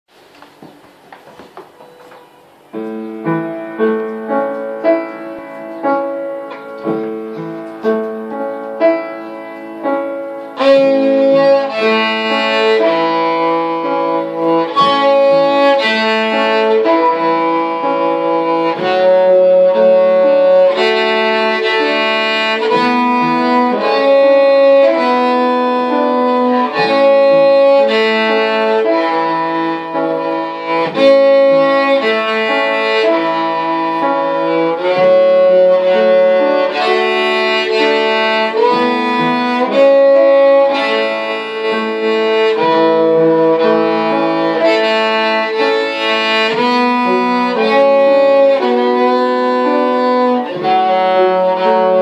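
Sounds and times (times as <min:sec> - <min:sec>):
piano accompaniment: 0:00.1 - 0:52.0
cello melody: 0:00.6 - 0:52.0.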